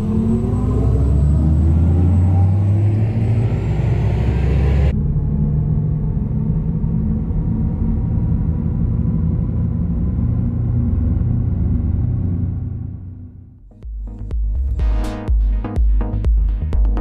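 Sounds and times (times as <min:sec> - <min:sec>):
deep low rumble with humming tones: 0:00.0 - 0:17.0.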